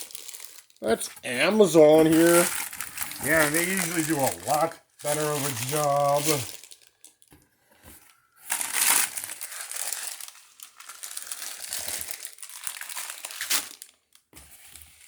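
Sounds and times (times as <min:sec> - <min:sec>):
packaging crinkling and rustling: 0:00.0 - 0:07.4, 0:08.0 - 0:15.0.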